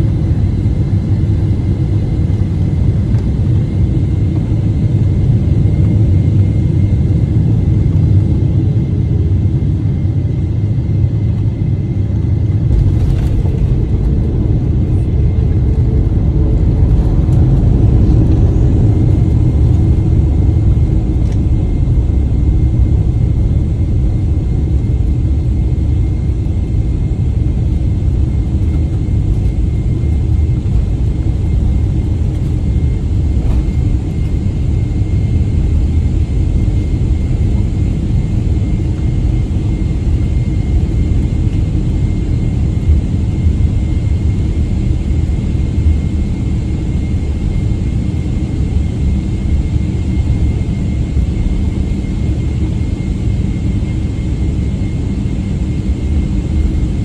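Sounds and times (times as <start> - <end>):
jet engine and wheels rumble: 0.0 - 57.0.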